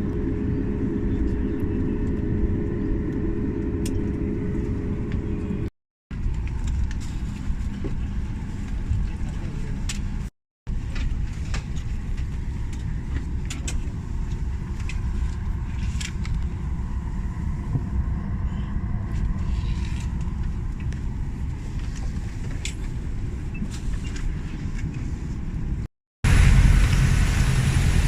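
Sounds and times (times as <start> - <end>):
vehicle rumble from inside: 0.0 - 28.0.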